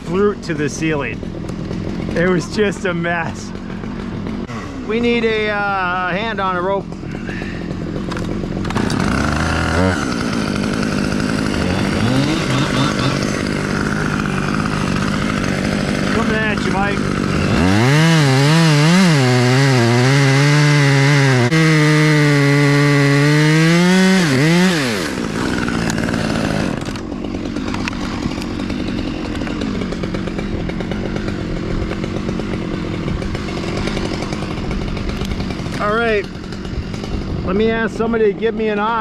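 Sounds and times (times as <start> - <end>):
chainsaw cutting at high revs: 0.0 - 39.0.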